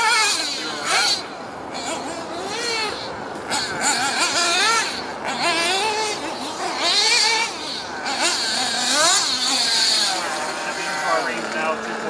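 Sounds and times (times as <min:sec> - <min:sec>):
rc car engine revving whine: 0:00.0 - 0:12.0.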